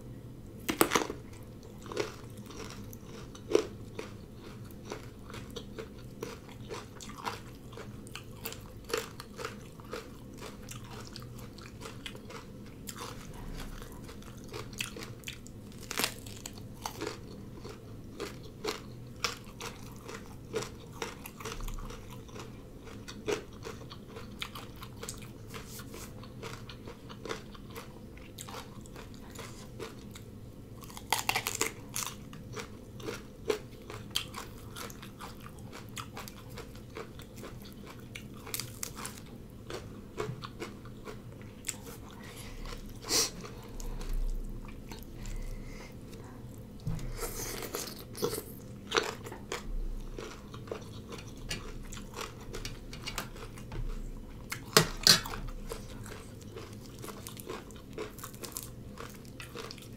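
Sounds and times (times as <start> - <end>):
person chewing and crunching food: 0.5 - 59.9.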